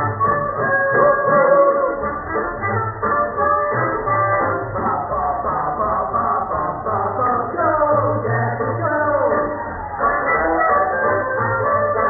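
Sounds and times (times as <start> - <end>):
muffled swing jazz band: 0.0 - 12.0.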